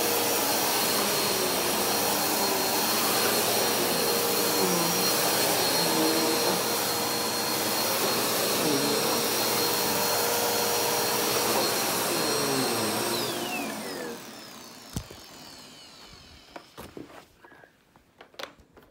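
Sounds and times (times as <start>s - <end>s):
vacuum cleaner motor whine: 0.0s - 17.7s.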